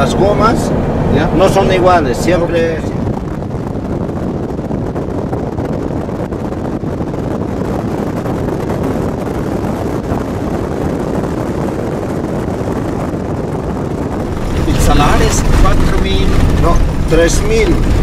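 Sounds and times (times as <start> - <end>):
car engine and tyre noise: 0.0 - 18.0
wind noise on microphone: 0.0 - 18.0.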